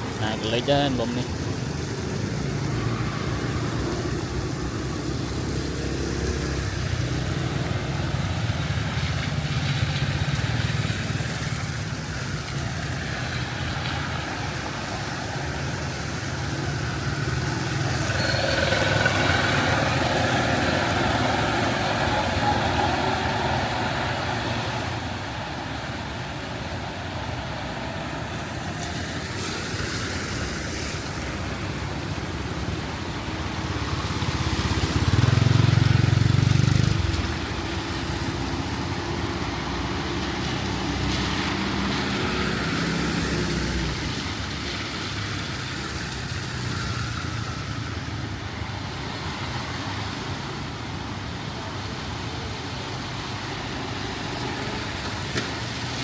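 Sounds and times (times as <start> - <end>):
loud vehicle passing: 0.0 - 11.8, 12.7 - 31.6, 33.2 - 47.9
vehicle engines running: 0.0 - 56.0.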